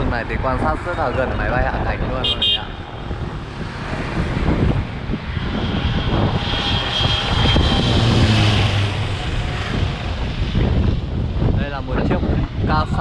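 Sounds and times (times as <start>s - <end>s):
propeller aircraft passing overhead: 0.0s - 13.0s.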